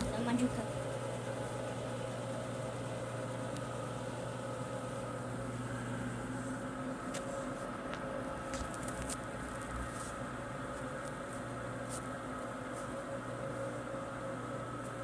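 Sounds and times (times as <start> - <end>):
washing machine spin hum: 0.0 - 15.0.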